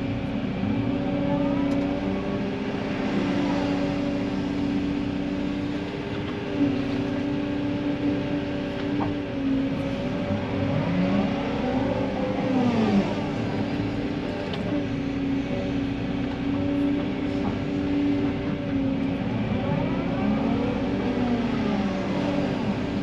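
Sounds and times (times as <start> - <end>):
diesel engine under load: 0.0 - 23.0
hydraulics whining: 0.0 - 23.0.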